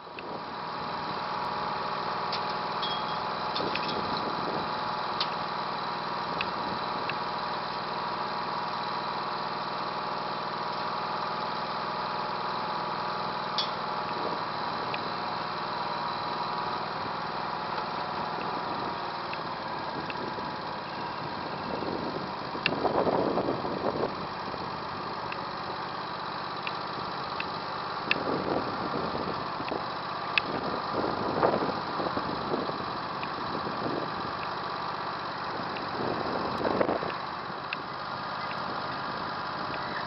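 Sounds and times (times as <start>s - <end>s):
garden tractor engine idling: 0.0s - 40.0s.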